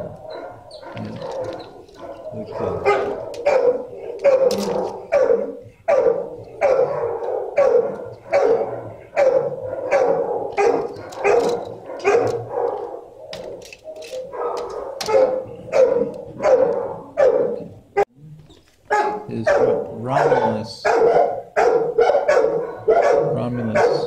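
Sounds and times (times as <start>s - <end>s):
dog barking with echo: 0.0s - 18.1s, 18.9s - 24.0s.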